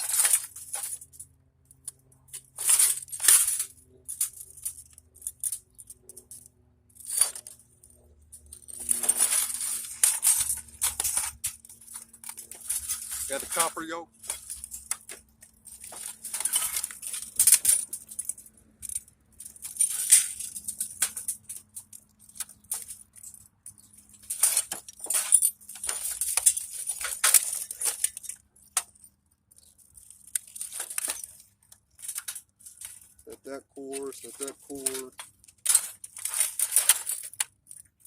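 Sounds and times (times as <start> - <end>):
metal and plastic parts clinking: 0.0 - 38.0.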